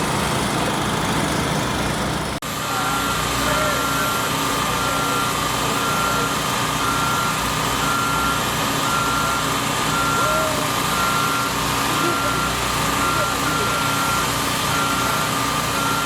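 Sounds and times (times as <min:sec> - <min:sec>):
engine humming: 0:00.0 - 0:16.0
reversing alarm beeping: 0:02.7 - 0:16.0.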